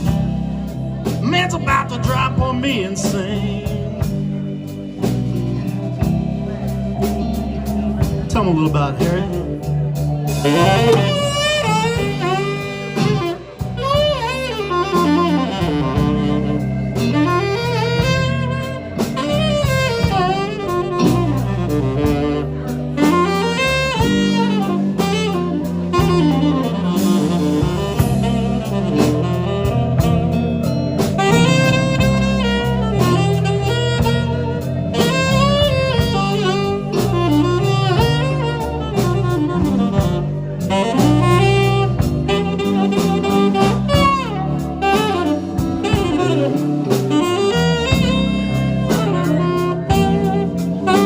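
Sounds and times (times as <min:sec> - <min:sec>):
lead instrument bending melody: 0:00.0 - 0:51.0
live band playing slow blues: 0:00.0 - 0:51.0.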